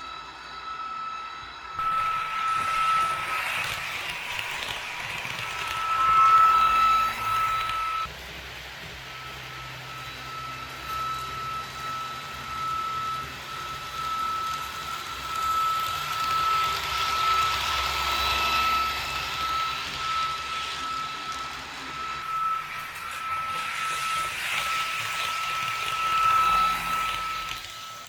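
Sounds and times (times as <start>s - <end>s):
model train whine and rushing: 0.0s - 28.0s.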